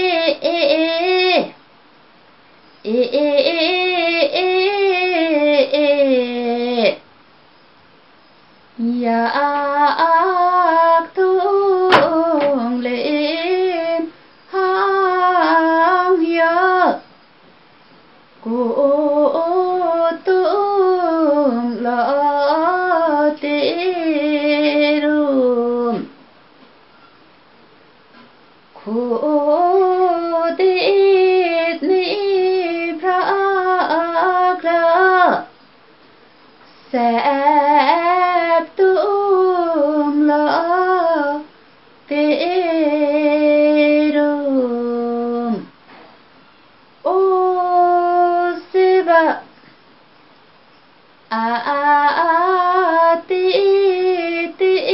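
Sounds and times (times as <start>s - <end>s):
woman singing unaccompanied: 0.0s - 1.7s, 2.7s - 7.1s, 8.7s - 17.2s, 18.4s - 26.2s, 28.7s - 35.6s, 36.6s - 45.8s, 47.0s - 49.6s, 51.2s - 54.9s.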